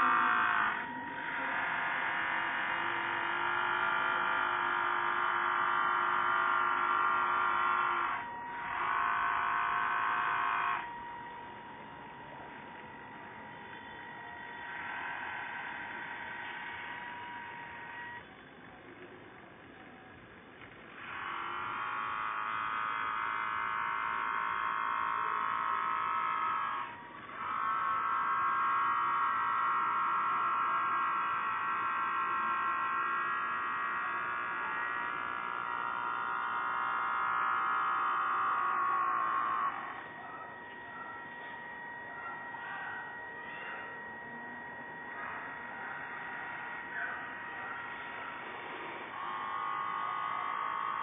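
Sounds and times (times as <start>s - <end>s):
small electric motor whining: 0.0s - 18.8s, 19.7s - 51.0s.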